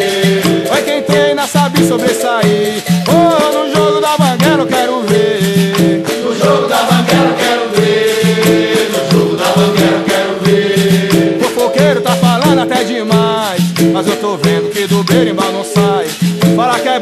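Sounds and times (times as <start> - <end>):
shaker rattling: 0.0 - 17.0.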